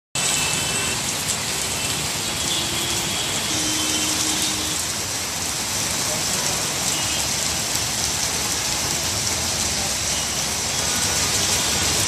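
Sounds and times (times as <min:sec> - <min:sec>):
heavy rain on a road: 0:00.2 - 0:12.0.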